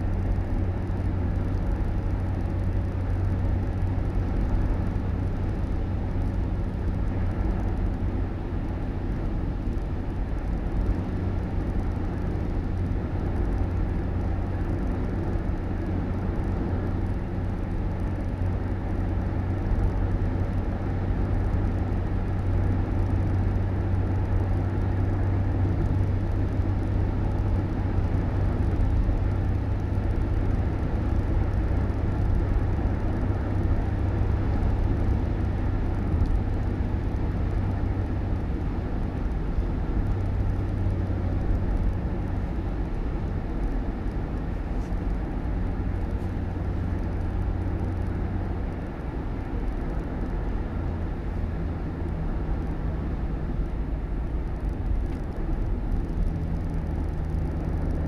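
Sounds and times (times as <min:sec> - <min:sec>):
vehicle rumble and road noise: 0:00.0 - 0:58.0.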